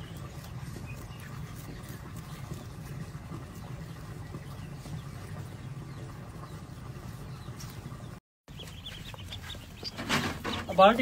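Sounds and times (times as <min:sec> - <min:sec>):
ducklings peeping: 0:00.0 - 0:11.0.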